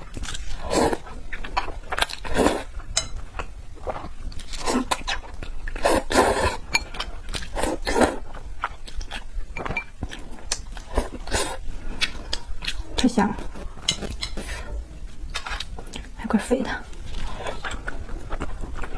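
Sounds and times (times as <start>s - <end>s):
wet chewing and smacking: 0.0s - 16.2s, 16.8s - 18.9s.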